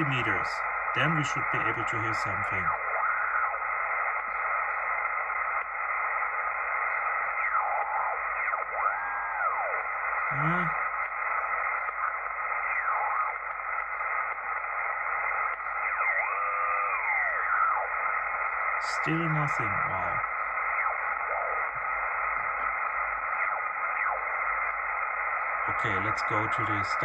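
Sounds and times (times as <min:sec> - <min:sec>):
radio band noise hiss: 0:00.0 - 0:27.0
radio tuning whistles: 0:00.0 - 0:27.0.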